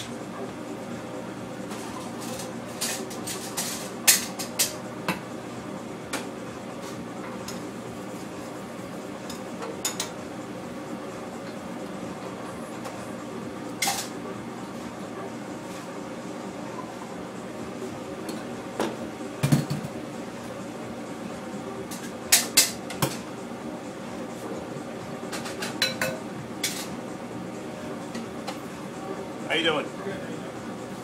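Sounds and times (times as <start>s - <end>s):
kitchen equipment hum: 0.0s - 31.0s.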